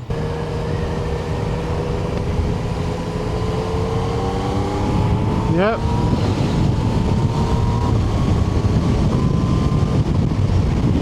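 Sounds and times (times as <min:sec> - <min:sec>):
faint thin engine whine: 0:00.0 - 0:11.0
motorcycle engine running: 0:00.0 - 0:11.0
road noise: 0:00.0 - 0:11.0
wind noise: 0:00.0 - 0:11.0.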